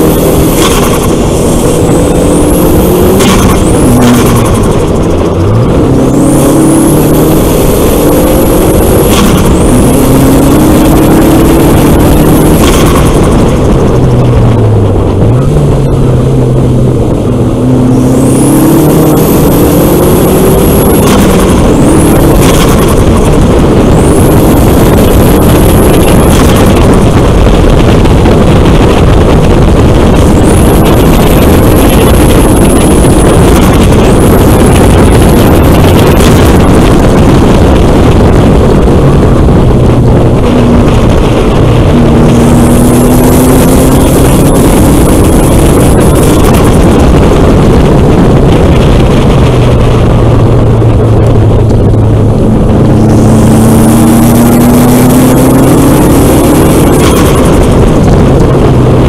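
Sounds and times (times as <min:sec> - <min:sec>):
car engine revving: 0:00.0 - 0:59.0
wind and road noise: 0:00.0 - 0:59.0.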